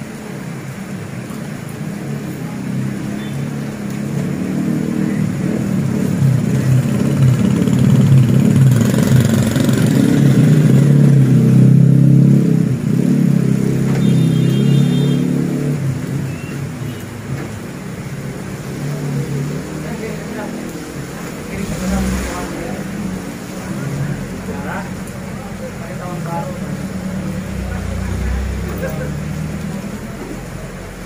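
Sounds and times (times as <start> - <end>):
heavy rain hissing: 0.0 - 31.0
motorcycle passing on wet road: 0.0 - 31.0.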